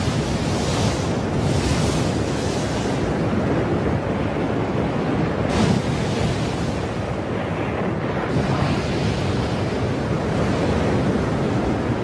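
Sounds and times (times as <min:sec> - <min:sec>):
rush of water and mud: 0:00.0 - 0:12.0.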